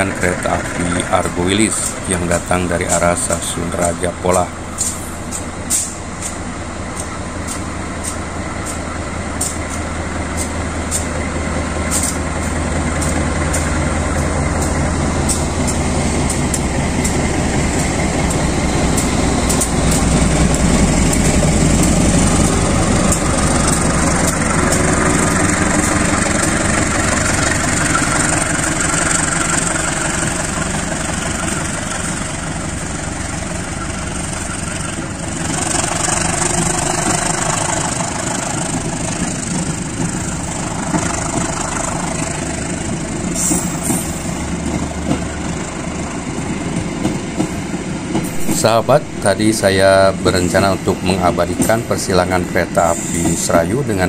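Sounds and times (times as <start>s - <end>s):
diesel locomotive engine: 0.0s - 54.0s
train coaches rolling past: 0.0s - 54.0s.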